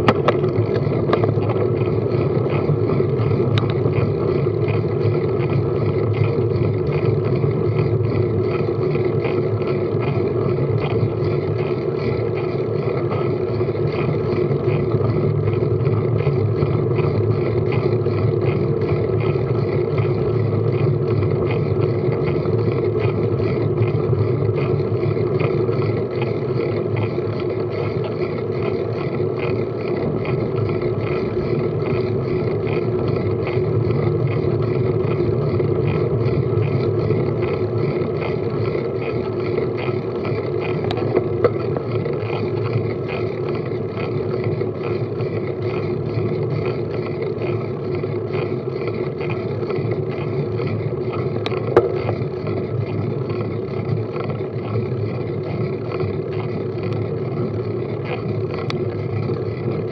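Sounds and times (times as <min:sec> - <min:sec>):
bicycle road and wind noise: 0:00.0 - 0:59.9.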